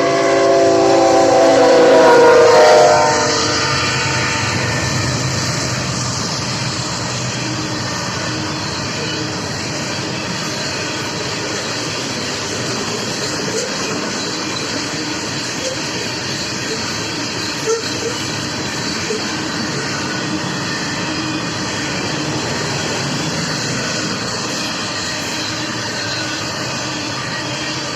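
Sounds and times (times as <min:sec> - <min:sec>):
freight train rolling past: 0:00.0 - 0:27.9.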